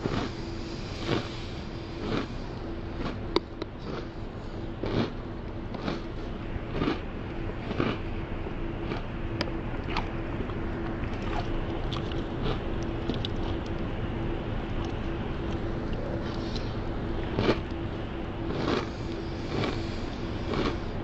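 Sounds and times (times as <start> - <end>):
person chewing crunchy cereal: 0.0 - 9.2, 9.8 - 13.8, 14.7 - 17.8, 18.4 - 21.0
steady hum: 0.0 - 21.0.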